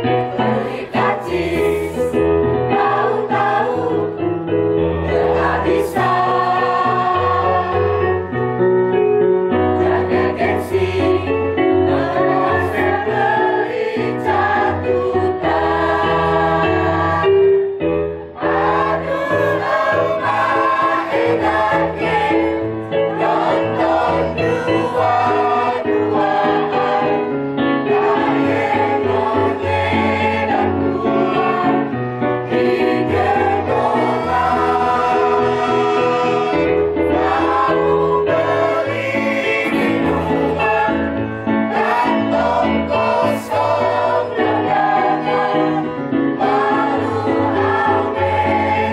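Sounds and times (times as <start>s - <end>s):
choir singing: 0.0s - 4.3s, 4.9s - 8.4s, 9.6s - 17.7s, 18.3s - 48.9s.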